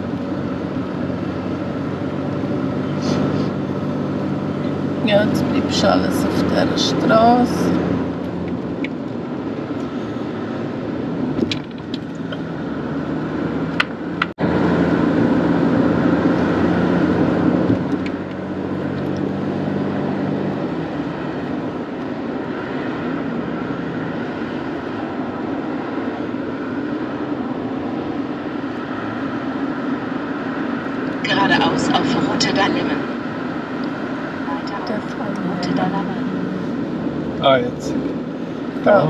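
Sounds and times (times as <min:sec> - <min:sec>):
car engine hum from inside cabin: 0:00.0 - 0:39.0
road rush: 0:00.0 - 0:39.0.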